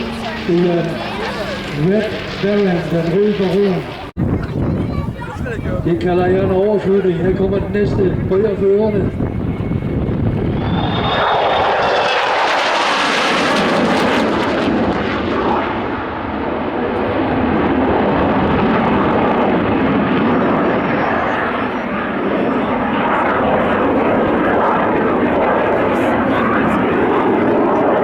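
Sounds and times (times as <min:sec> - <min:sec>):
military jet flying past: 0:00.0 - 0:28.0.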